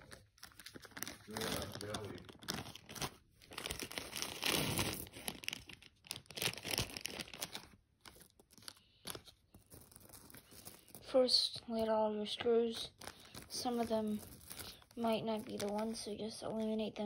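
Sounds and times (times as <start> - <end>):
plastic bag crinkling: 0.0 - 11.1, 12.2 - 17.0.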